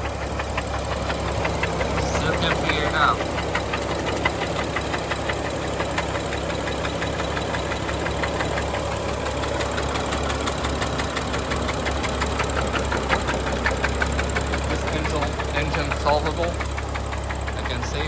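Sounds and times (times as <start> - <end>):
car engine with ticking knock: 0.0 - 18.0.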